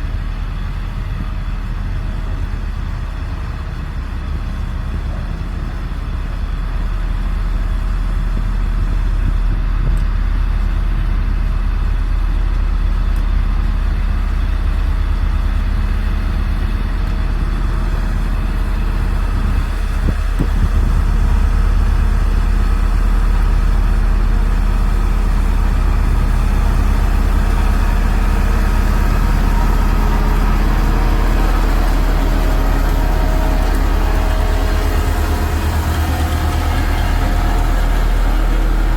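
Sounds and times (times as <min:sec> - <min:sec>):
diesel machinery engine humming: 0:00.0 - 0:38.9.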